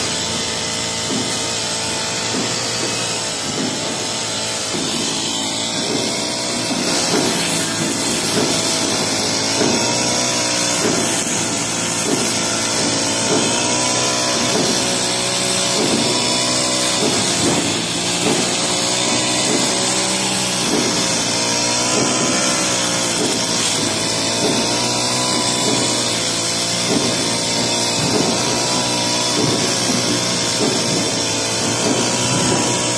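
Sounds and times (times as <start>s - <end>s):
brush cutter cutting grass: 0.0s - 32.9s.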